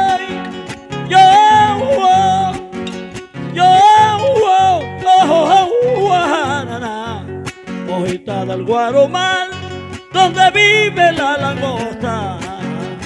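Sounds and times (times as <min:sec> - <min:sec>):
acoustic guitars strumming: 0:00.0 - 0:13.0
man singing: 0:00.0 - 0:13.0.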